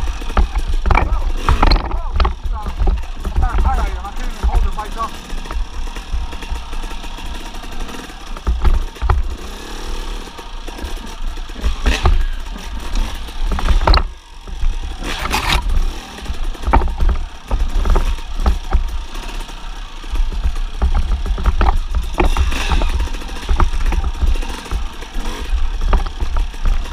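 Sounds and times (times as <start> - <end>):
bike knocking and clattering: 0.0 - 26.9
dirt bike engine running: 0.0 - 26.9.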